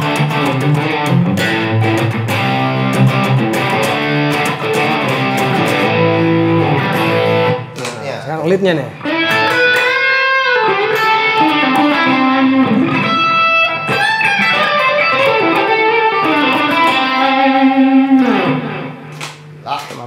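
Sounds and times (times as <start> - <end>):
electric guitar lead line: 0.0 - 7.8, 8.9 - 19.6.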